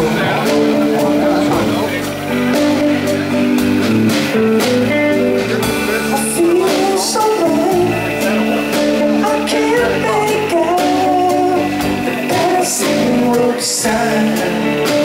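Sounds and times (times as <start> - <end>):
drums: 0.0 - 15.0
electric bass: 0.0 - 15.0
electric guitar: 0.0 - 15.0.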